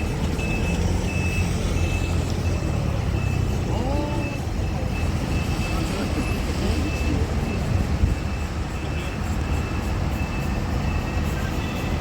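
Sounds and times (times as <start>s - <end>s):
engine rumbling: 0.0s - 12.0s
high-pitched warning beeps: 0.0s - 12.0s.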